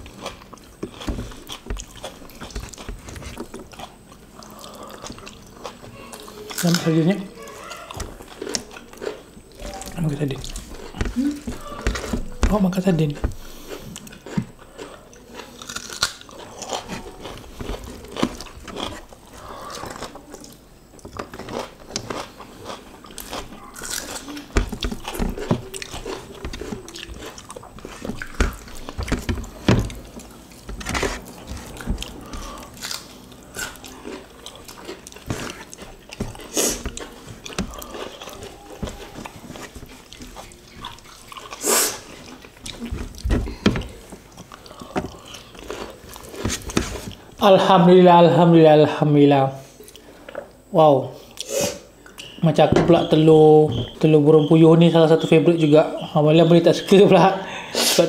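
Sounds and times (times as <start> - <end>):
people chewing and lip smacking: 0.0 - 47.5, 49.6 - 54.6.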